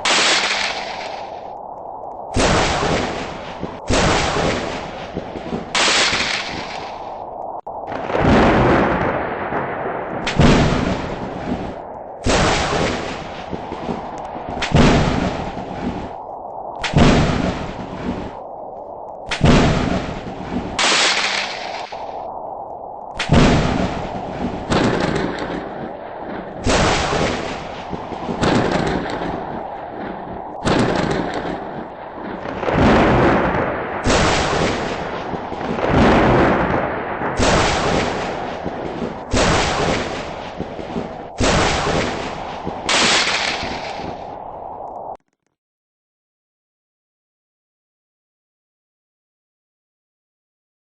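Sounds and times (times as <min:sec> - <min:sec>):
thunder cracking and rumbling: 0:00.0 - 0:45.1.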